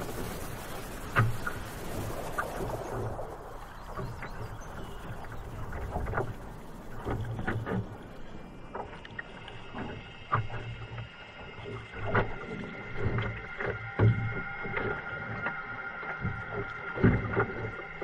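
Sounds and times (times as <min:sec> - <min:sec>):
paddle splashing in water: 0:00.0 - 0:18.0
water slapping against hull: 0:00.0 - 0:18.0.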